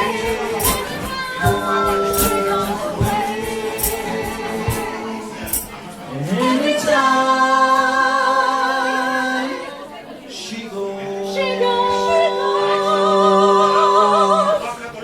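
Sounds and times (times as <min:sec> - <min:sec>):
vocal group singing a cappella: 0:00.0 - 0:15.0.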